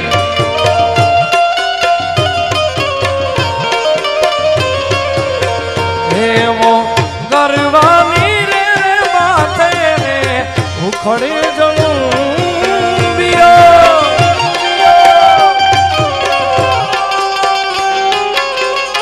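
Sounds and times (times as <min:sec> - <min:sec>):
sliding melodic lead: 0:00.0 - 0:19.0
tabla and dholak drumming: 0:00.0 - 0:19.0.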